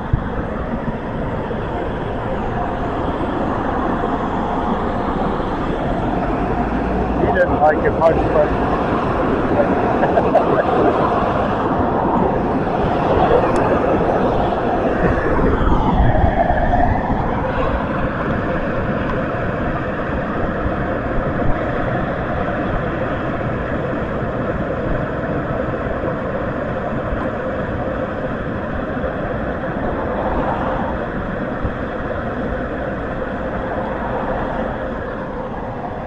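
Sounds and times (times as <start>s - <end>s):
car wash equipment rushing: 0.0s - 36.0s.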